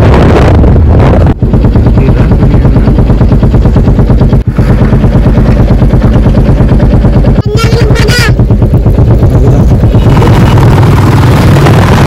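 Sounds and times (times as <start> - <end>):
boat engine thudding: 0.0 - 12.0.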